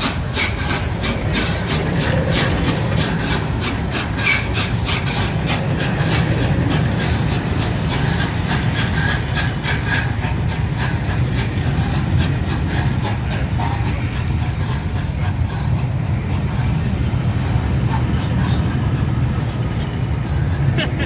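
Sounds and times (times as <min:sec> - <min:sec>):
low rumble of moving train: 0:00.0 - 0:21.0
steam locomotive exhaust beats: 0:00.0 - 0:21.0.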